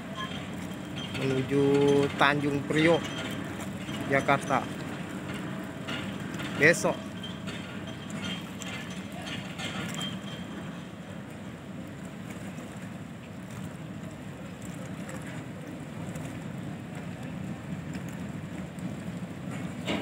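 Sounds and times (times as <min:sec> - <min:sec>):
ship low rumble: 0:00.0 - 0:20.0.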